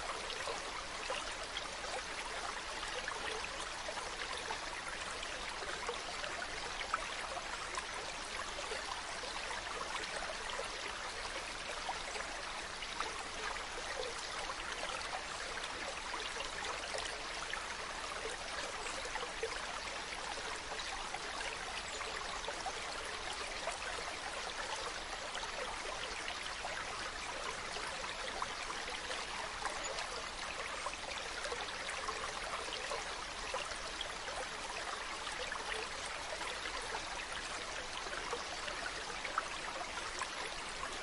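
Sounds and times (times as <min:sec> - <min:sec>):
stream running over rocks: 0:00.0 - 0:41.0.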